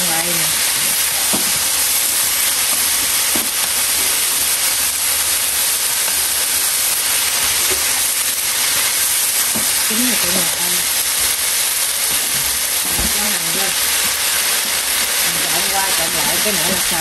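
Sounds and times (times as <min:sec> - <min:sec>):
beef sizzling in a pan: 0:00.0 - 0:17.0.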